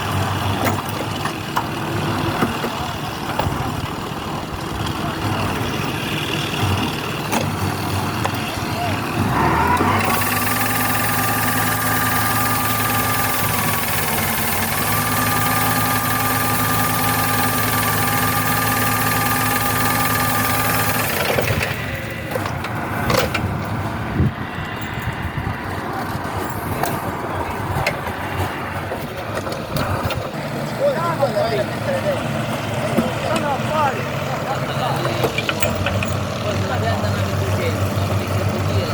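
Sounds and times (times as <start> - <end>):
machine engine running: 0.0 - 38.9.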